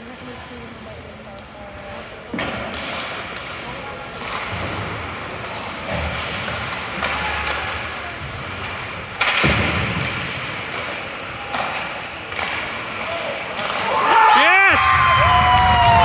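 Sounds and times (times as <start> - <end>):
sounds of play in a hall: 0.0 - 16.0.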